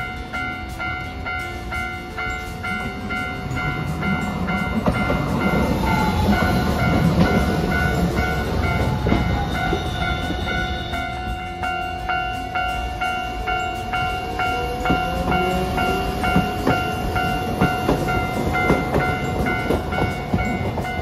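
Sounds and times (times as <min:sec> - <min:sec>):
level crossing bell ringing: 0:00.0 - 0:21.0
tram rumbling past: 0:00.0 - 0:21.0.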